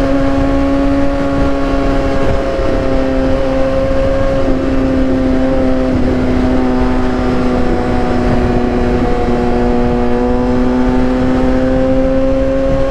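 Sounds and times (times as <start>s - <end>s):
motorcycle engine cruising: 0.0s - 12.9s.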